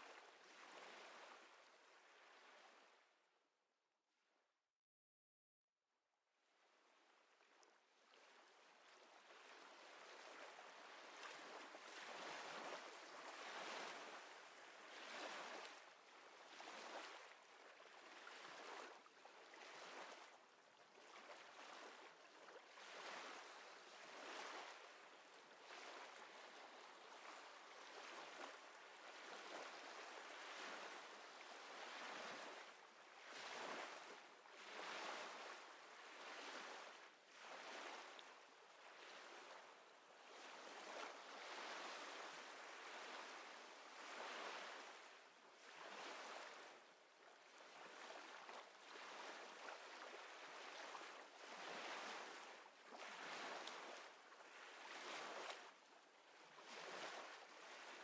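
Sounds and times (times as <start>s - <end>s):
small waves lapping: 0.0s - 3.1s, 6.7s - 58.0s.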